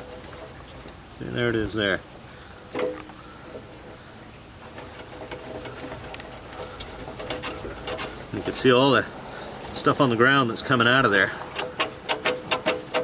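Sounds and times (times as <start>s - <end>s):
wire hanger scraping in rubber tube: 0.0s - 1.8s, 2.6s - 13.0s.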